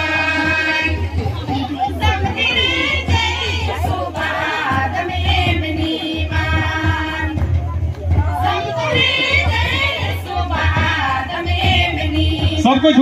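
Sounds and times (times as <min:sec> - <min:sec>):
large drum beating: 0:00.0 - 0:13.0
women singing together: 0:00.0 - 0:13.0.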